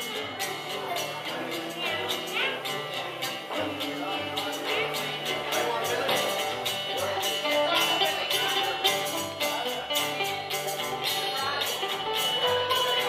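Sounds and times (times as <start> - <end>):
jingling percussion: 0.0 - 13.0
live band playing upbeat tune: 0.0 - 13.0.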